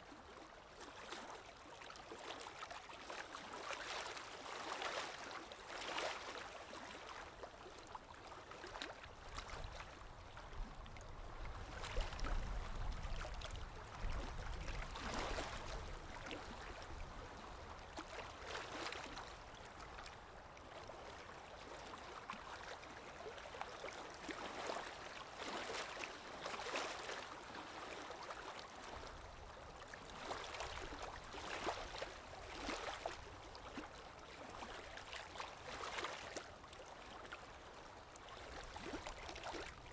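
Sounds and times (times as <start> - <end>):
stream water gurgling: 0.1 - 39.9.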